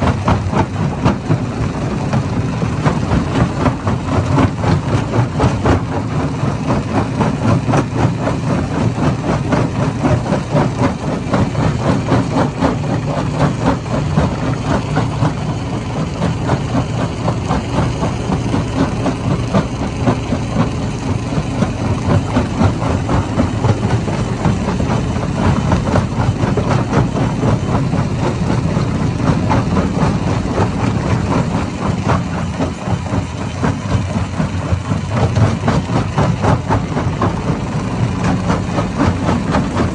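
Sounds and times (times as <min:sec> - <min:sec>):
rapid clatter: 0:00.0 - 0:39.9
stone crusher machine hum: 0:00.0 - 0:39.9.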